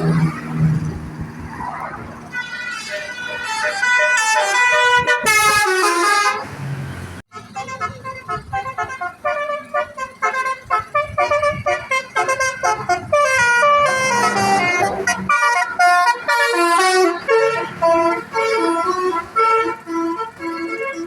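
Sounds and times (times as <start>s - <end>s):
musical bus horn tune: 2.3s - 6.5s, 7.3s - 21.0s.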